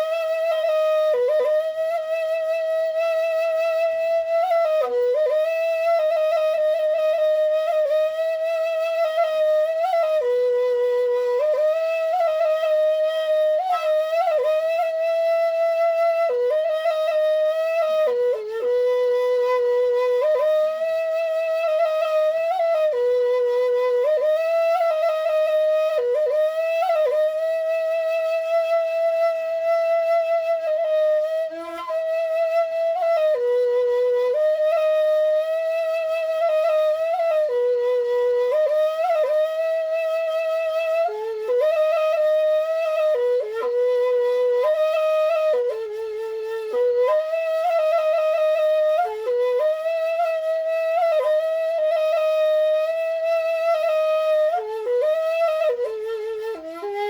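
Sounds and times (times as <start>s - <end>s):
bamboo flute melody: 0.0s - 57.0s.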